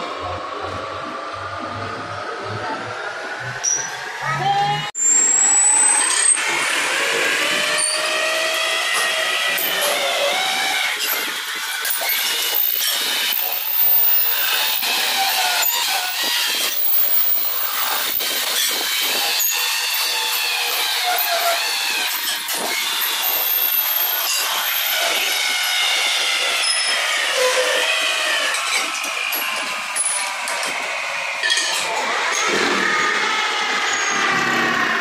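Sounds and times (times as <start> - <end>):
lathe cutting tool squealing: 5.0 - 34.8.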